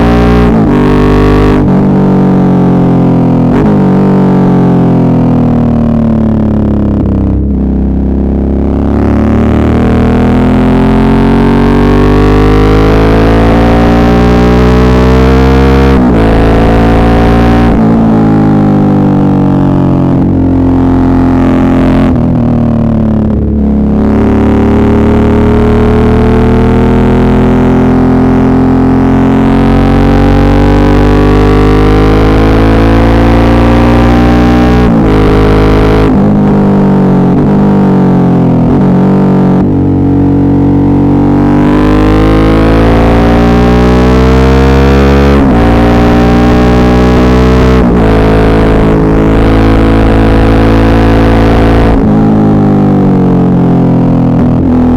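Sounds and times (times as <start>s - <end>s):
motorcycle engine revving under load: 0.0s - 54.9s.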